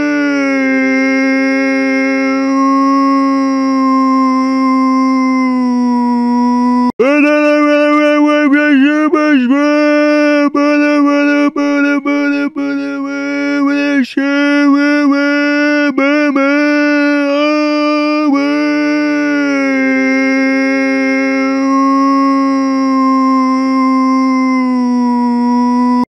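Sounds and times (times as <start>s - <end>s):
person screaming: 0.0s - 26.0s.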